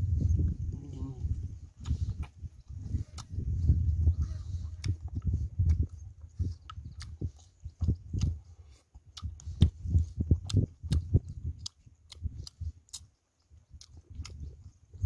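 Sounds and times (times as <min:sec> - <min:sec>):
person chewing with open mouth: 0:00.0 - 0:15.0.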